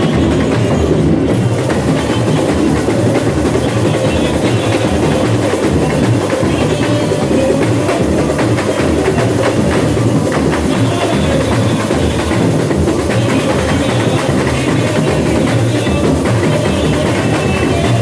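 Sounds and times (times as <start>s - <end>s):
samba percussion ensemble drumming: 0.0s - 18.0s.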